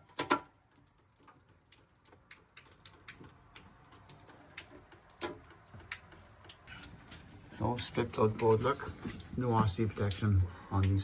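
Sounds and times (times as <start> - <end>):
faint small clicks and taps: 0.0 - 11.0.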